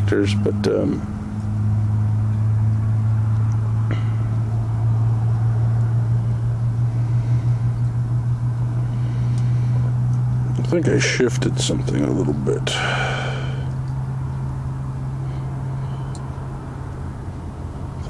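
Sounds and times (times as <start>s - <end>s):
steady low motor hum: 0.0s - 18.0s.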